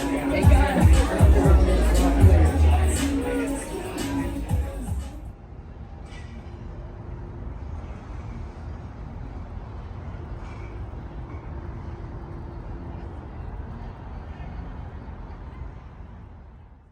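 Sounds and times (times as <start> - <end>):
low outdoor rumble: 0.0 - 16.7.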